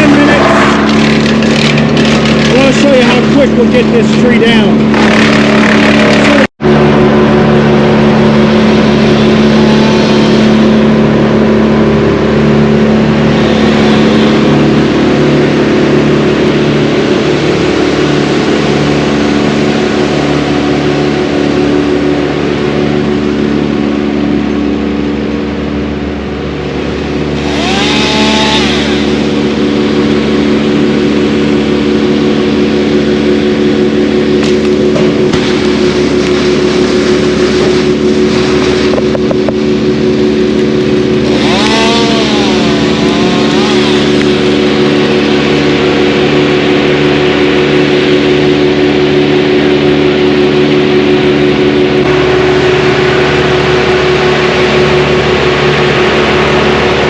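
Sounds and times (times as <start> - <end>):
engine running steadily: 0.0 - 57.0
gliding whine: 0.0 - 57.0.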